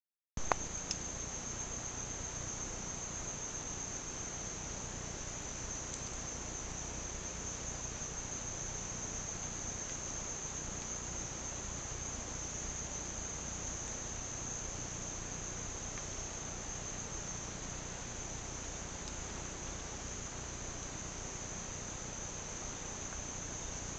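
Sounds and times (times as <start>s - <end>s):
insects chorus: 0.4s - 23.9s.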